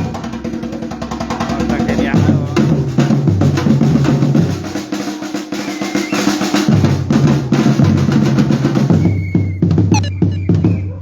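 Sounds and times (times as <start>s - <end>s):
snare drums: 0.0s - 11.0s.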